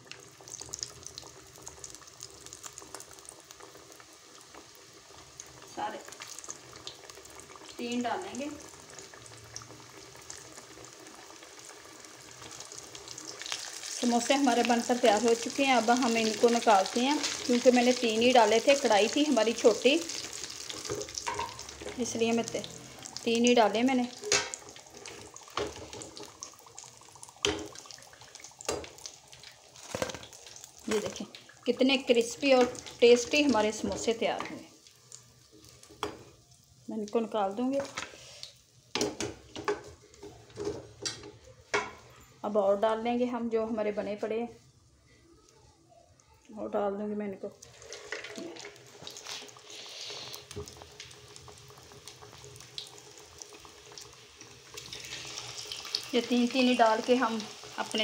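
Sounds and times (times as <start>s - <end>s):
hot oil sizzling: 0.0s - 45.6s, 46.2s - 58.0s.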